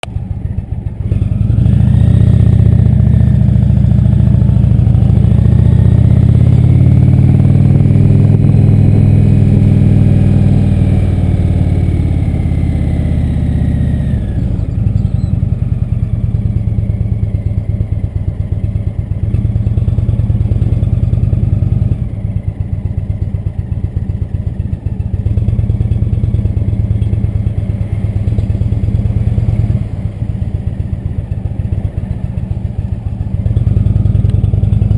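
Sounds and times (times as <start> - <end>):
motorcycle engine pulling away: 0.2 - 34.9.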